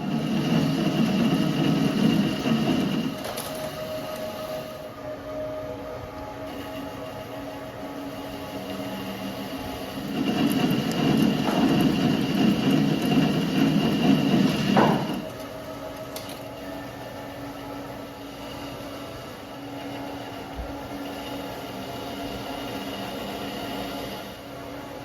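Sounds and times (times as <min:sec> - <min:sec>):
lathe machine hum: 0:00.0 - 0:25.0.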